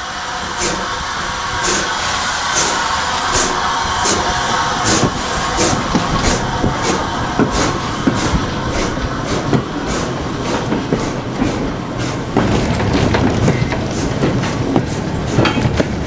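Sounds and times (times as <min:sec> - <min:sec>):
train running on track: 0:00.0 - 0:16.0.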